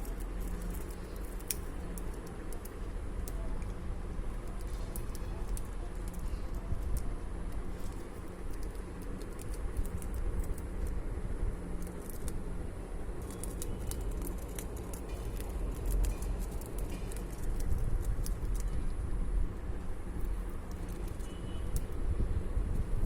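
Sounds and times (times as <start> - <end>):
squirrel crunching on chips: 0.0 - 19.0, 20.1 - 23.0
low outdoor rumble: 0.0 - 23.0.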